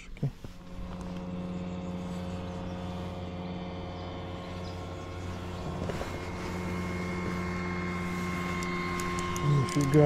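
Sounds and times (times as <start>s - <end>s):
motor hum: 0.0s - 10.0s
high whine: 0.4s - 10.0s.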